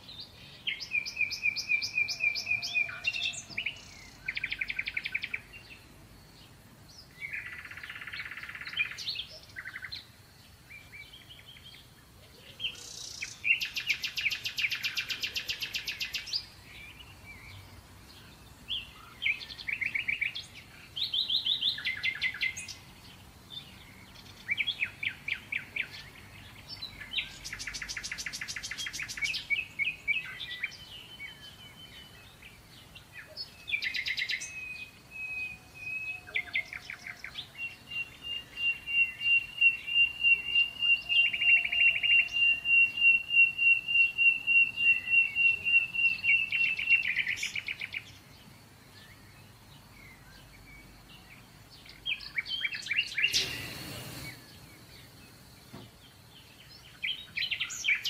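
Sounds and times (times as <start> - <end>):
songbird chirps and trills: 0.0 - 58.0.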